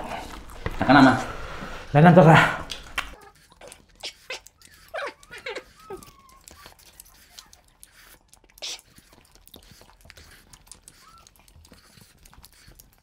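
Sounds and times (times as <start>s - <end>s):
chewing and mouth smacks: 0.0s - 1.7s, 2.6s - 13.0s.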